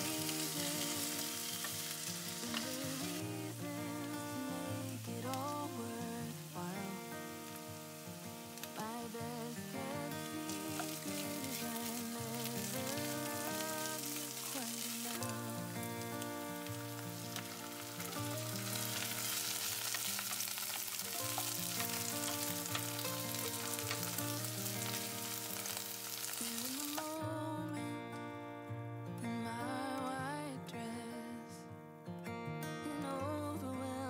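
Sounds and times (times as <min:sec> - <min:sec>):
vegetables sizzling in oil: 0:00.0 - 0:27.3.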